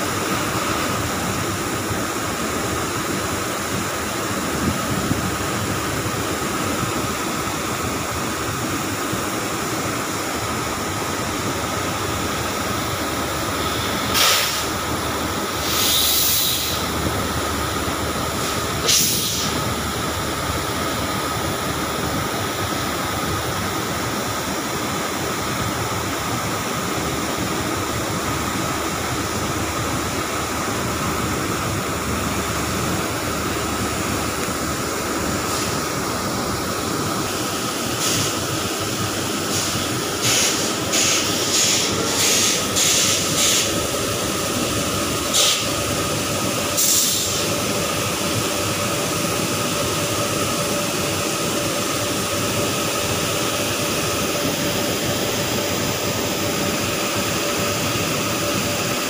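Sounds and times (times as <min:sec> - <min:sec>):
train rushing noise: 0:00.0 - 0:59.0.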